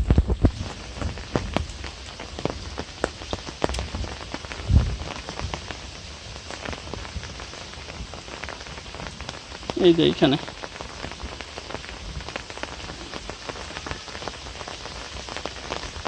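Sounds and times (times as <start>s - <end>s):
light rain drops ticking: 0.0s - 16.0s
soft steady rain hiss: 0.0s - 16.0s.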